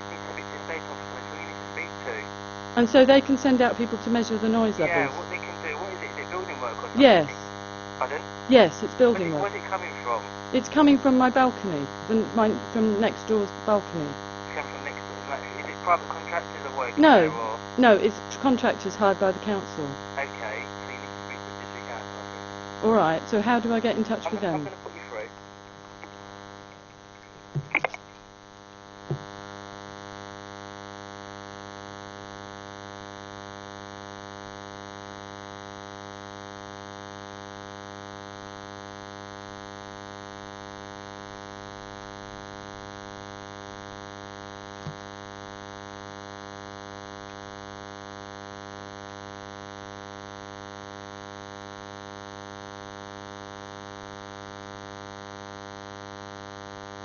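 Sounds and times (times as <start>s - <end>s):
telephone line buzz: 0.0s - 57.0s.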